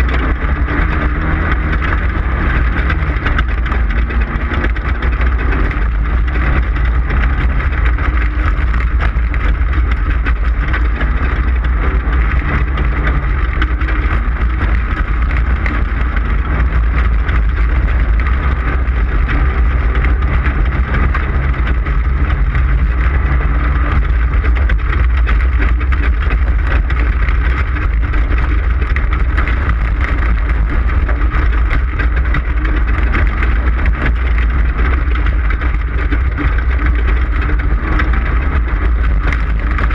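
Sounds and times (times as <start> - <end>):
race car engine rumble: 0.0 - 39.9
rattles and knocks: 0.0 - 39.9.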